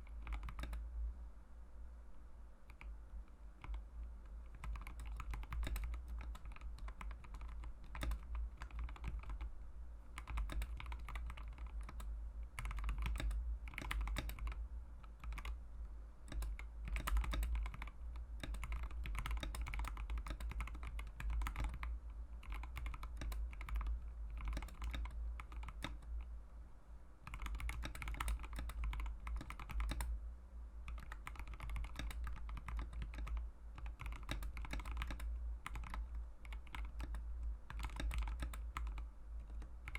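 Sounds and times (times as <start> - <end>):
mechanical keyboard typing: 0.0 - 0.8, 3.6 - 9.5, 10.2 - 15.6, 16.3 - 26.2, 27.2 - 30.1, 30.9 - 39.9.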